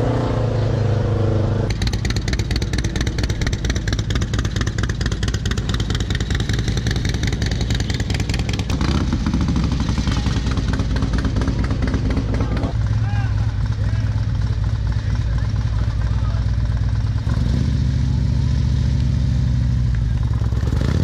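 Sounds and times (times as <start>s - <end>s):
motorcycle engines running loudly: 0.0s - 21.0s.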